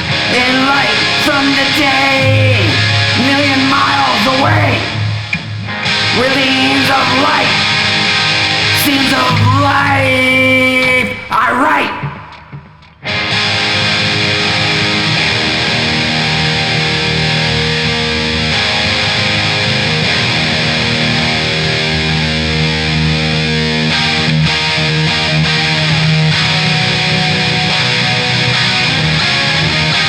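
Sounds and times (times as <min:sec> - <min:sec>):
distorted electric guitar: 0:00.0 - 0:30.0
instrumental rock music: 0:00.0 - 0:30.0.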